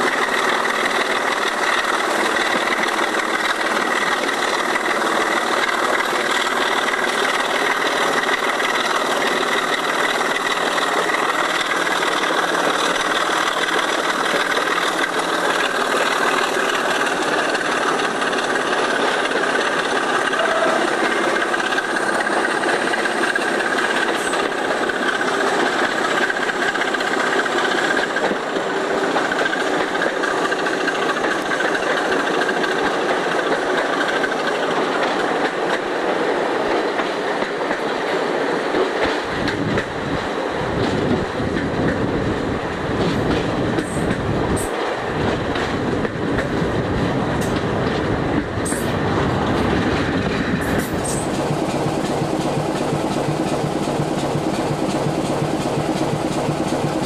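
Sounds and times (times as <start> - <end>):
diesel locomotive engine at full power: 0.0 - 57.0.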